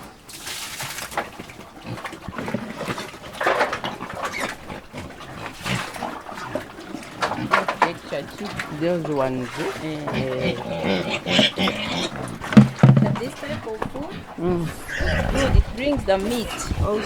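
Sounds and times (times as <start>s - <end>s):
pigs grunting and squealing: 1.2s - 17.0s.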